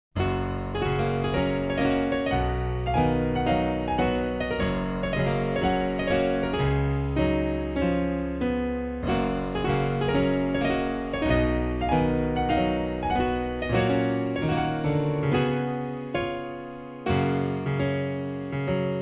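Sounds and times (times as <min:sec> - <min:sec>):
solo piano melody: 0:00.2 - 0:19.0.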